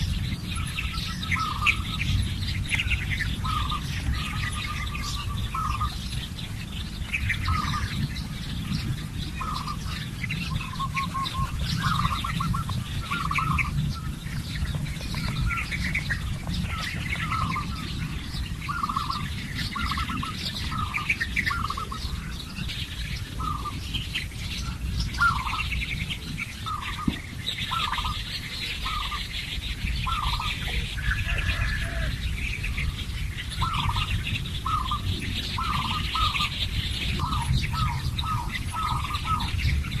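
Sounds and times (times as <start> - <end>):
birds chirping: 0.0 - 40.0
steady low rumble: 0.0 - 40.0.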